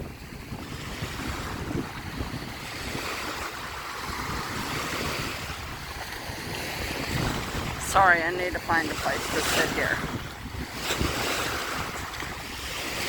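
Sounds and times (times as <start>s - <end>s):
waves washing against shore: 0.0s - 13.0s
wind buffeting microphone: 0.0s - 13.0s.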